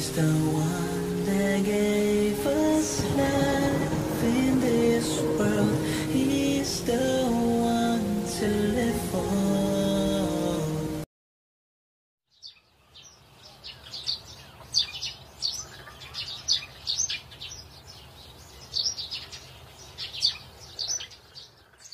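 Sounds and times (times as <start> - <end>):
birds chirping: 0.0 - 10.9, 12.3 - 21.9.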